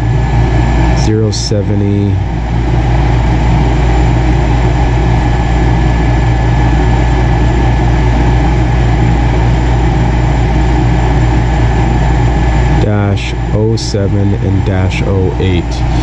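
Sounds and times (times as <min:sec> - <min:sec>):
furnace motor humming: 0:00.0 - 0:16.0.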